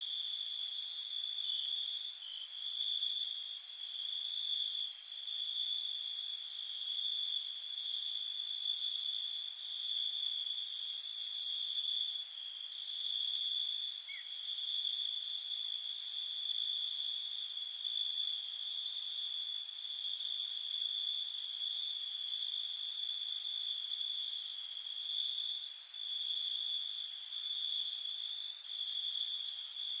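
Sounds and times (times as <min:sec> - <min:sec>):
crickets chirping: 0:00.1 - 0:30.0.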